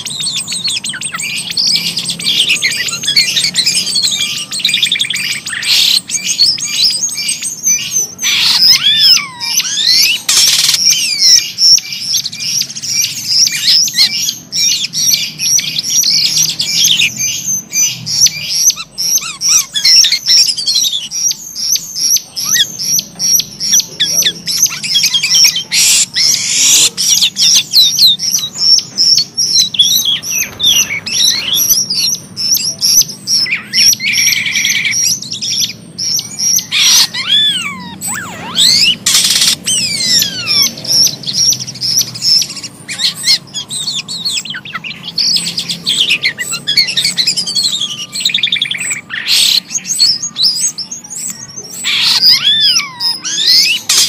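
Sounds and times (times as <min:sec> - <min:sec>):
caged birds chirping and whistling: 0:00.0 - 0:54.0.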